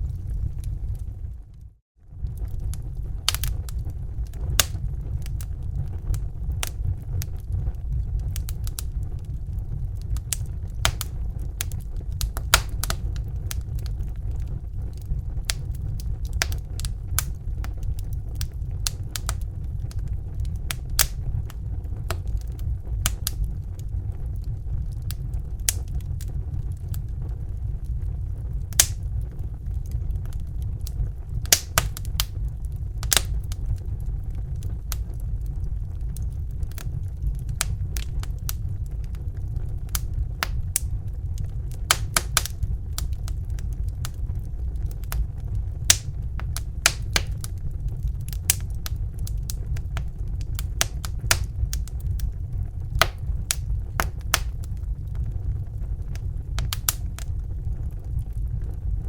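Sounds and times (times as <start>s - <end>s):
fire crackling and popping: 0.0s - 59.0s
low rumble: 0.0s - 59.0s.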